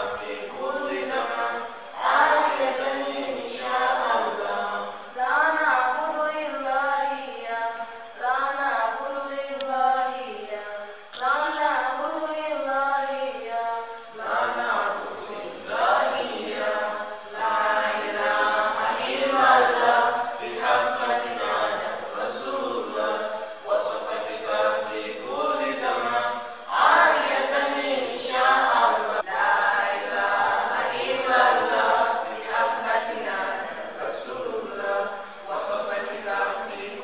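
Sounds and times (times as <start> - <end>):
unaccompanied vocal chanting: 0.0 - 37.0.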